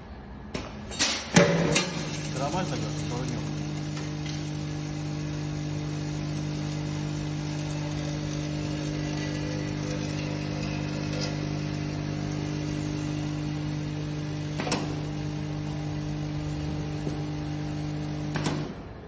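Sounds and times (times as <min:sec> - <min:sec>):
filling machine electric hum: 0:00.0 - 0:19.0.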